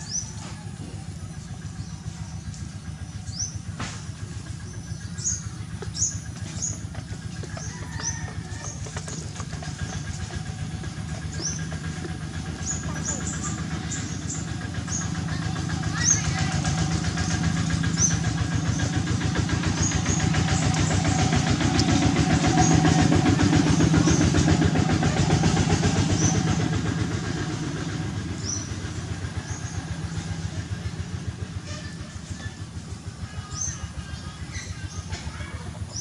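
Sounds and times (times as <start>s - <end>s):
vehicle engine passing: 0.0s - 36.0s.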